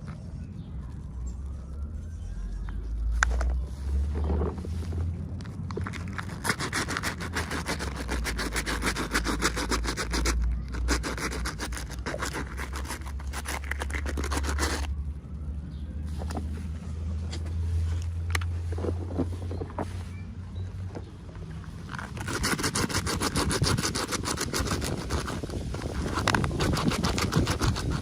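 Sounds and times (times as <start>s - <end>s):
packaging rustling and scraping: 1.2s - 14.9s, 16.1s - 20.2s, 21.6s - 28.0s.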